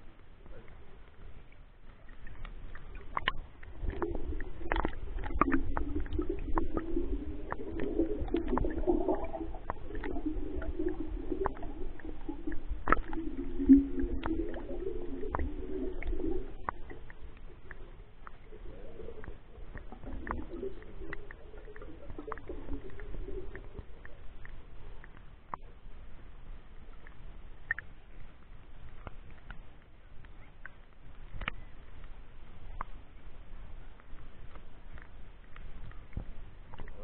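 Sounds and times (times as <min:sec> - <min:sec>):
muffled water gurgling and sloshing: 0:00.0 - 0:37.0.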